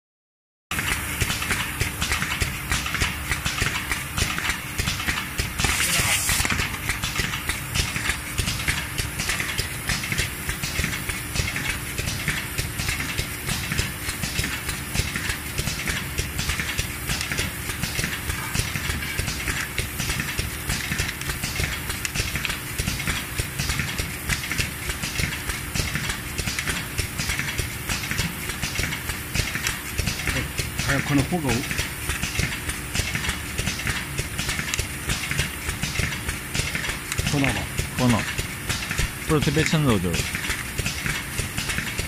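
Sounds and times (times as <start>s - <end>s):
constant machine hum: 0.7s - 42.0s
machine clattering clicks: 0.8s - 42.0s.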